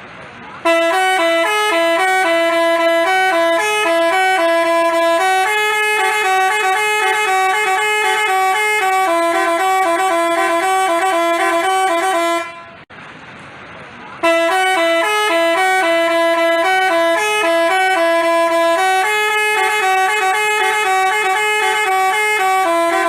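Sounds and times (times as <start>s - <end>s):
musical bus horn melody: 0.6s - 12.9s, 14.2s - 23.0s.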